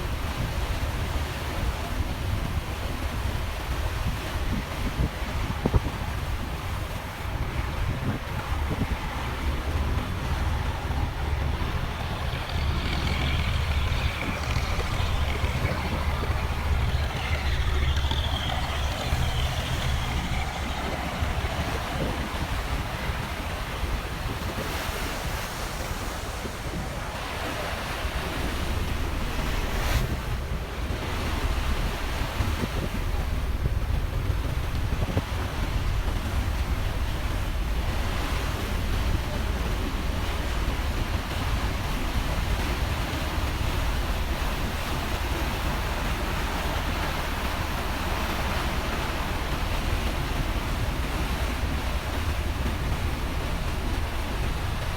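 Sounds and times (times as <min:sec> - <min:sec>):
water rushing: 0:00.0 - 0:32.4, 0:36.4 - 0:54.9
ferry engine drone: 0:00.0 - 0:54.9
wind noise on microphone: 0:00.0 - 0:54.9.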